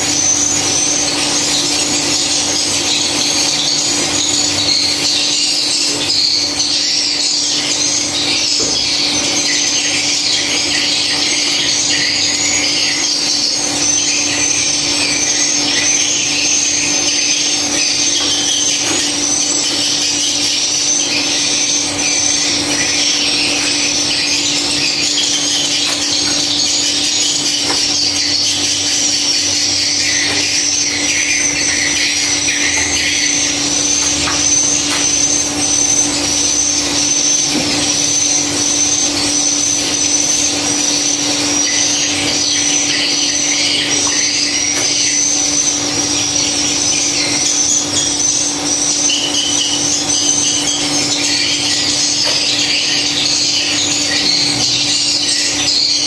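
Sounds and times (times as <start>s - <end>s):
swiftlets chirping and twittering: 0.0s - 56.0s.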